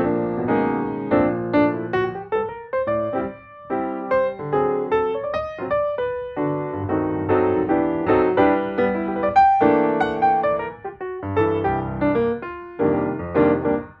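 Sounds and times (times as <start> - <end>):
solo piano music: 0.0 - 14.0.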